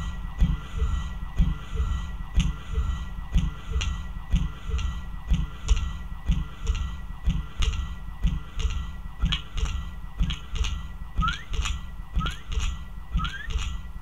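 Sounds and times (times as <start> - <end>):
heartbeat-like double thumps: 0.0 - 14.0
steady high tone: 0.0 - 14.0
faint electronic clicks: 2.4 - 14.0.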